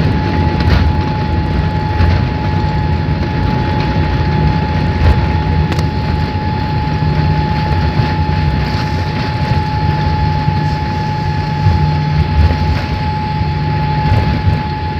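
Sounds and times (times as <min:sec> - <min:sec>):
airliner cabin low rumble: 0:00.0 - 0:14.9
constant whine: 0:00.0 - 0:14.9.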